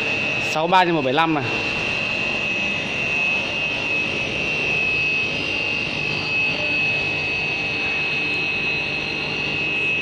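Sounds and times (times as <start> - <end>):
machine droning with high whine: 0.0 - 10.0.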